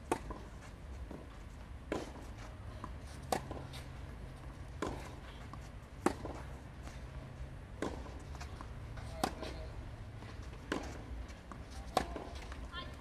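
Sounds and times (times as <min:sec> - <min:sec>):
tennis balls struck with rackets: 0:00.0 - 0:00.5, 0:01.1 - 0:02.2, 0:02.8 - 0:07.1, 0:07.7 - 0:09.8, 0:10.4 - 0:13.0.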